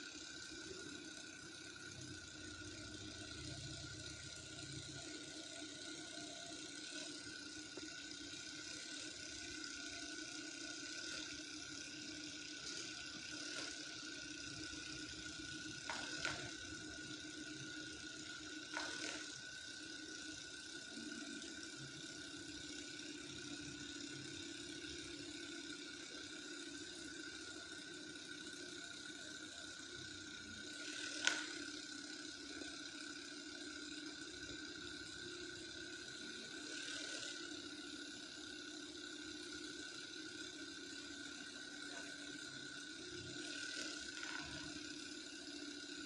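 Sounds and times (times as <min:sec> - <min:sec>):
adjusting gun whirring: 0:00.0 - 0:46.0.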